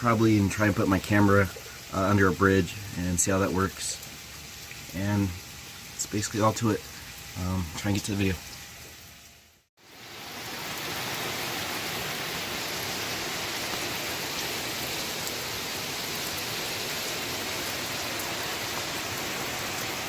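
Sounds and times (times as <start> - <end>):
heavy rain pouring: 0.0 - 8.5, 9.8 - 20.0.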